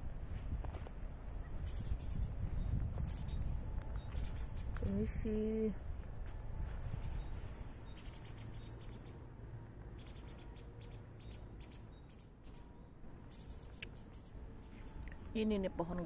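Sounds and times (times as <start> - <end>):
low steady rumble: 0.0 - 16.0
small birds chirping trills: 0.7 - 16.0.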